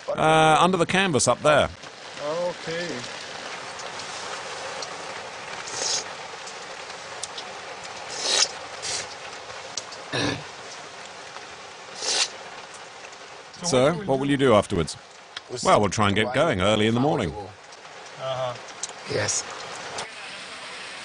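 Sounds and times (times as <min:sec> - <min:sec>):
rain on vehicle roof: 0:00.0 - 0:21.0.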